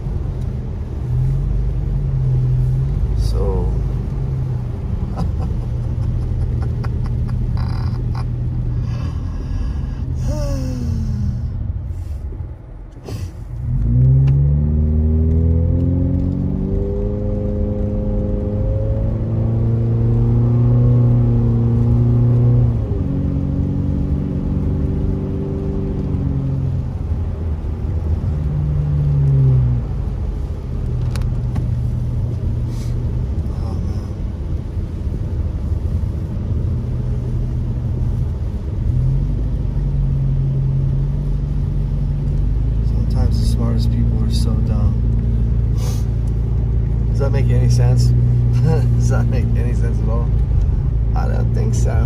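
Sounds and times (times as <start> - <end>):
car engine from inside cabin: 0.0 - 52.0
tyres on wet road: 0.0 - 52.0.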